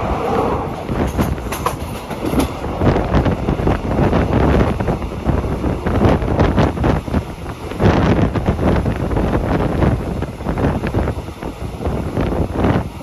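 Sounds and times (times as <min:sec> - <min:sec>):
train rumbling on rails: 0:00.0 - 0:13.0
train wheel clatter: 0:00.0 - 0:13.0
wind buffeting microphone: 0:00.0 - 0:13.0.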